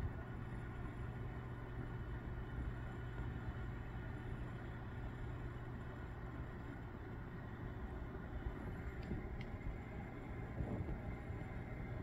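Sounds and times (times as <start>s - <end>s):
low rumble and hum: 0.0s - 12.0s.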